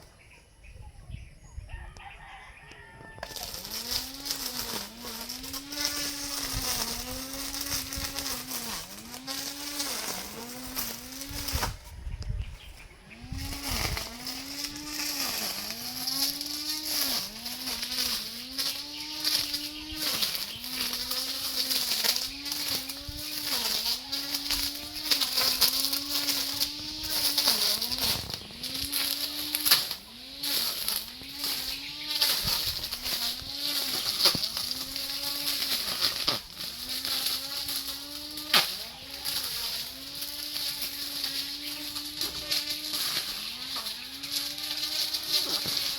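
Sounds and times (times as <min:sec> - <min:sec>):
lawn mower engine cutting grass: 0:02.0 - 0:45.9.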